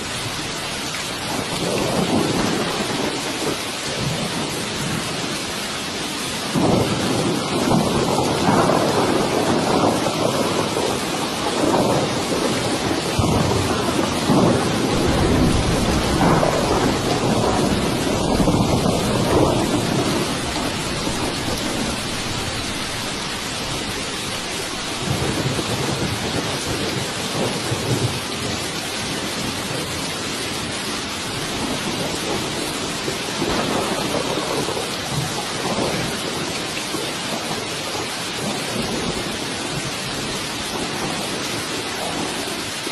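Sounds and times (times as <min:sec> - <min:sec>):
heavy rain hissing: 0:00.0 - 0:42.9
rolling thunder rumbling: 0:00.0 - 0:42.9.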